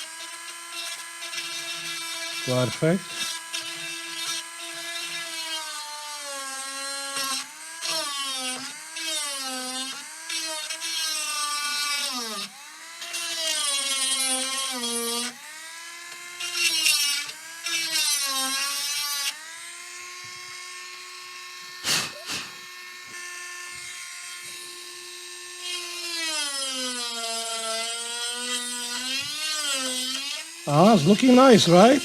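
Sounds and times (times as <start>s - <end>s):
rotary tool grinding: 0.0s - 32.0s.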